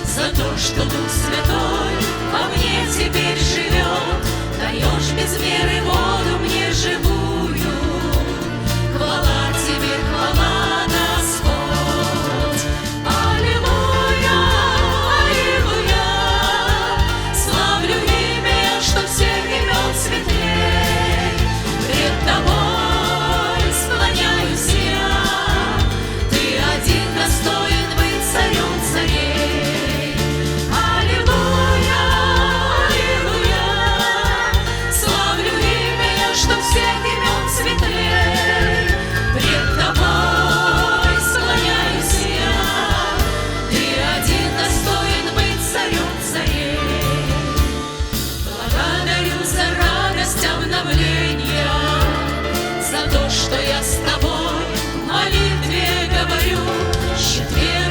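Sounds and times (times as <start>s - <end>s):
band with bass and drums: 0.0s - 57.9s
vocal group singing: 0.0s - 57.9s.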